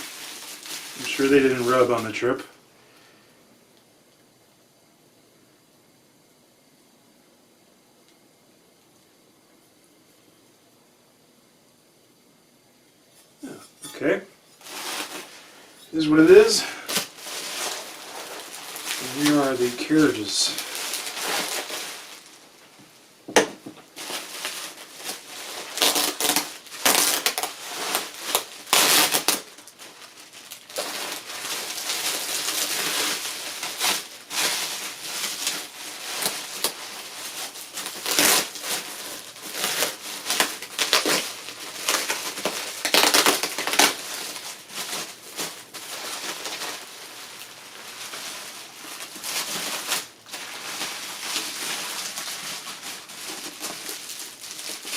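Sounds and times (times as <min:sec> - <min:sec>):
packing material crinkling: 0:00.0 - 0:02.5, 0:13.4 - 0:54.9.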